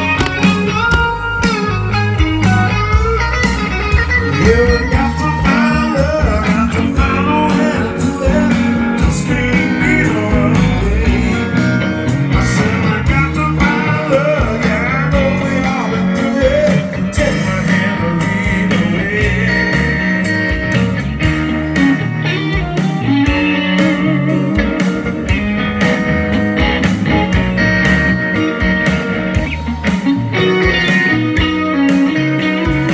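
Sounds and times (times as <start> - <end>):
drums: 0.0 - 32.9
electric guitars: 0.0 - 32.9
organ: 0.0 - 32.9.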